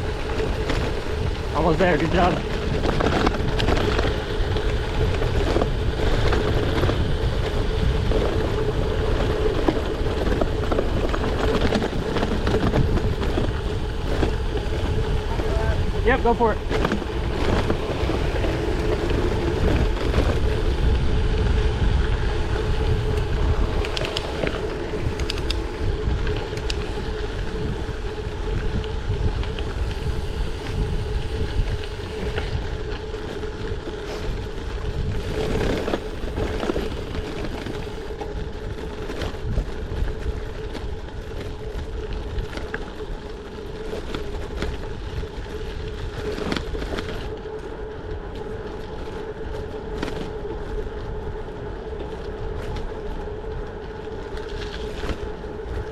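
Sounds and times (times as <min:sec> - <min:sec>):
bike tyre noise: 0:00.0 - 0:55.9
steady hum: 0:00.0 - 0:55.9
wind rumble on microphone: 0:00.0 - 0:55.9.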